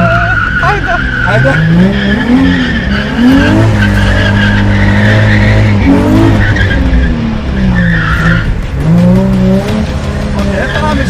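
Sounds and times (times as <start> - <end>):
car engine at high revs: 0.0 - 11.0
tyres squealing and skidding: 0.0 - 11.0.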